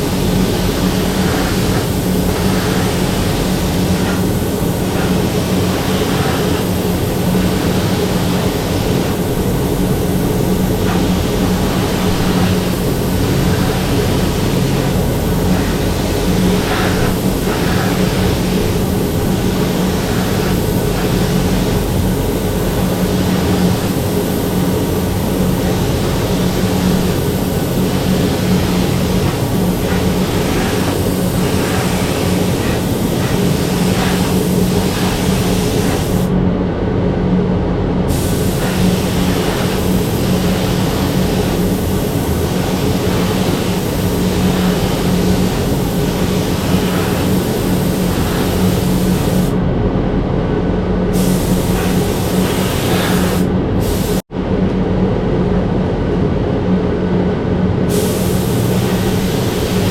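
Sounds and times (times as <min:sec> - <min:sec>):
constant air hiss: 0:00.0 - 0:36.4, 0:37.6 - 0:49.8, 0:50.6 - 0:54.3, 0:56.9 - 0:59.9
loud machine hum: 0:00.0 - 0:59.9.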